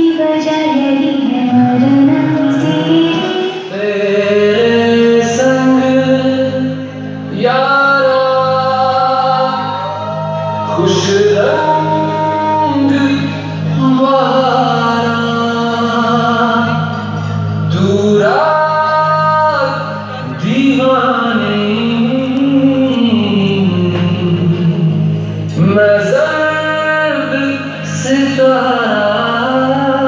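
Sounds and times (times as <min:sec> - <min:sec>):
song with singing voice: 0:00.0 - 0:30.0.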